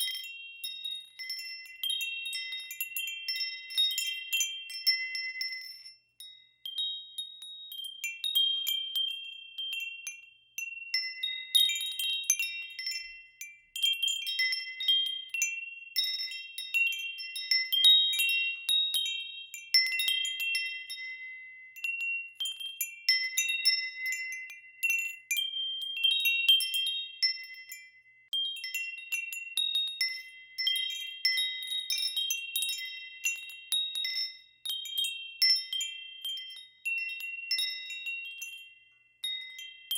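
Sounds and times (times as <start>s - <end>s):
metal wind chimes ringing: 0.0s - 39.9s.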